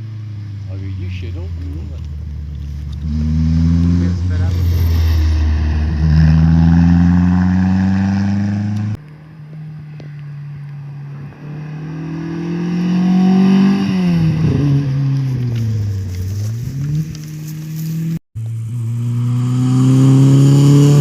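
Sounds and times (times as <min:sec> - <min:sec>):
rally car engine accelerating: 0:00.0 - 0:09.0, 0:09.6 - 0:21.0
second car engine rising in pitch: 0:00.0 - 0:21.0.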